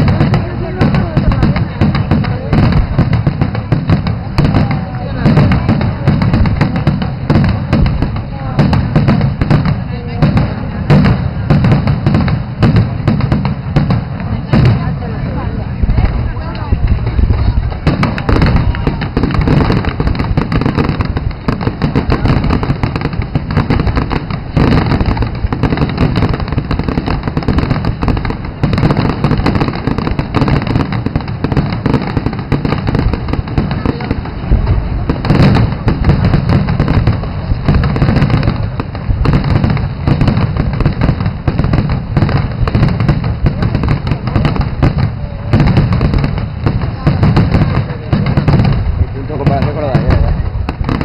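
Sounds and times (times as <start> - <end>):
fireworks bursting with loud bangs: 0.0 - 51.0.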